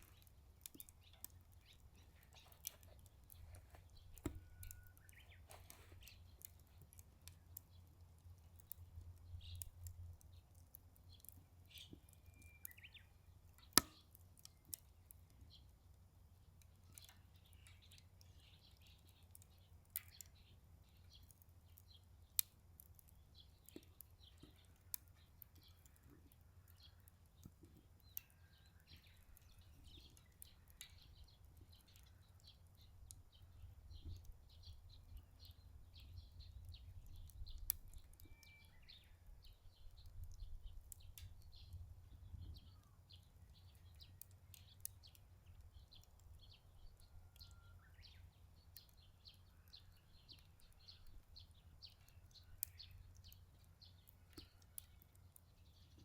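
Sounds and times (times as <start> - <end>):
small birds chirping: 0.0 - 56.0
wood fire crackling and popping: 0.0 - 56.0.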